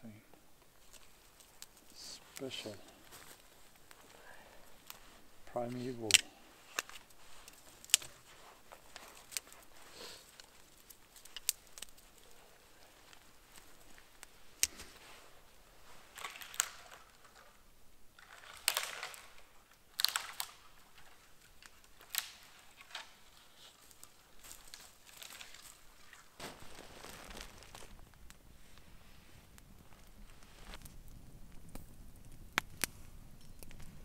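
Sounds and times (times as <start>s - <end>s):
campfire crackling and popping: 0.1s - 34.0s.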